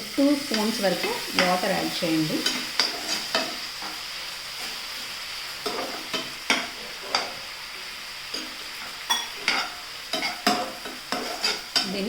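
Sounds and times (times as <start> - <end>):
chicken sizzling in a pan: 0.0 - 12.0
spatula scraping a pan: 0.4 - 12.0.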